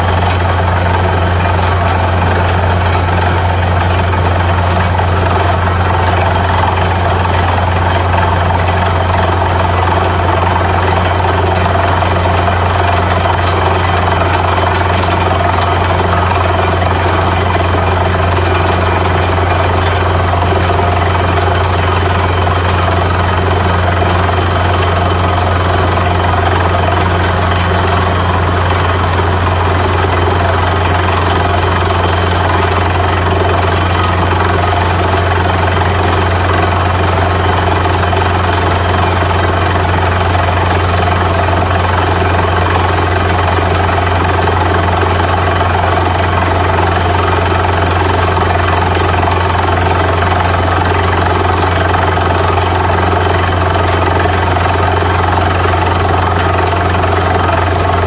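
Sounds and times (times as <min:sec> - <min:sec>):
drilling rig droning: 0:00.0 - 0:58.0.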